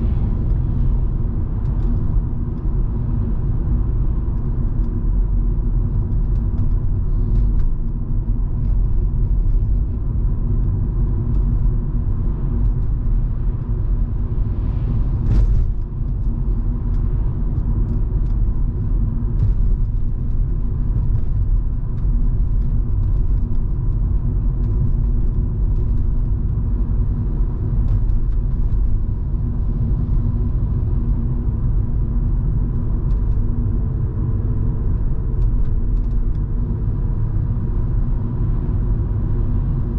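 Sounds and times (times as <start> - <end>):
car engine and road rumble: 0.0 - 39.9
faint constant hum: 0.0 - 39.9.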